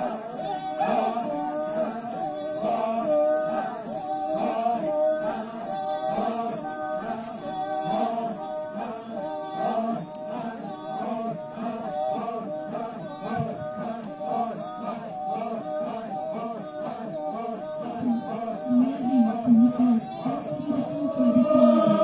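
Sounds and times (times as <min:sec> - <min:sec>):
group singing unaccompanied: 0:00.0 - 0:22.0.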